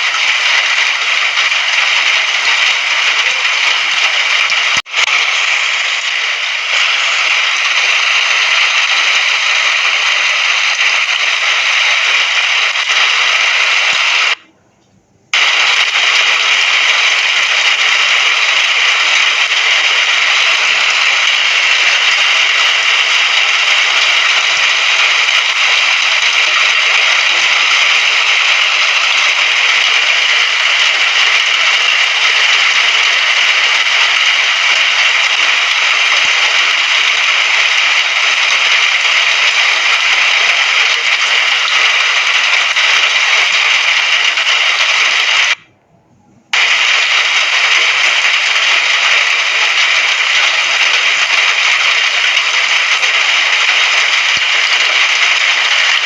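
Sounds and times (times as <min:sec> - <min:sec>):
rainfall hissing: 0:00.0 - 0:14.4, 0:15.4 - 0:45.6, 0:46.5 - 0:56.0.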